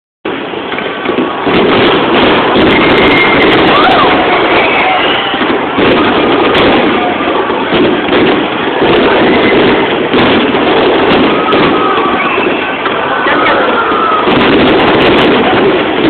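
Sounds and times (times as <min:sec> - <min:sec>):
firework shells bursting: 0:00.3 - 0:16.0.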